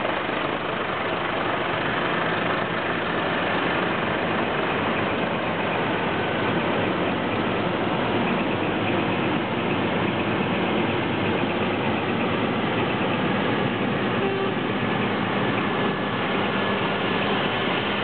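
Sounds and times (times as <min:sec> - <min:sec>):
truck diesel engines: 0:00.0 - 0:18.0.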